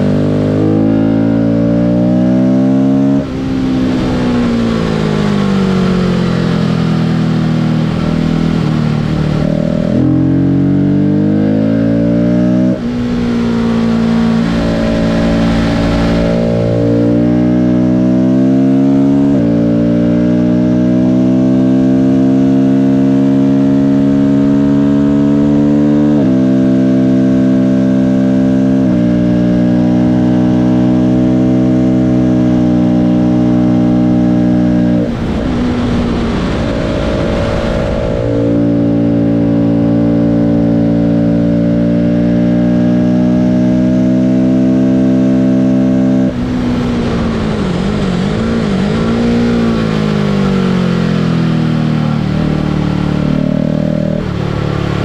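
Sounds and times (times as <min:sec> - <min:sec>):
car engine revving under load: 0:00.0 - 0:55.0
wind and road noise: 0:00.0 - 0:55.0.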